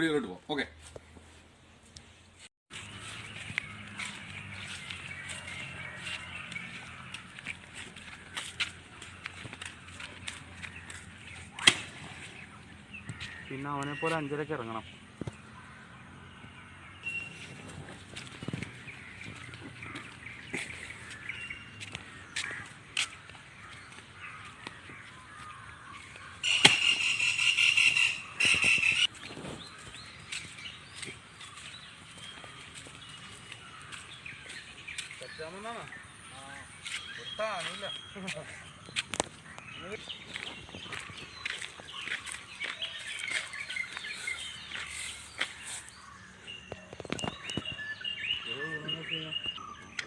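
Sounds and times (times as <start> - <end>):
faint birds calling: 2.7 - 50.0.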